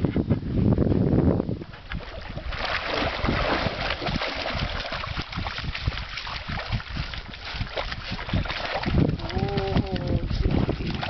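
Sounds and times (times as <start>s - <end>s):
wind rumble on microphone: 0.0s - 11.0s
dog wading through water: 1.6s - 11.0s.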